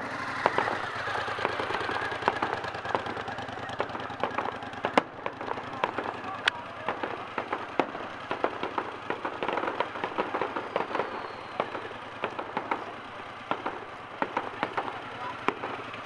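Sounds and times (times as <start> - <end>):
background rumble: 0.0 - 16.0
fireworks bangs and crackles: 0.0 - 16.0.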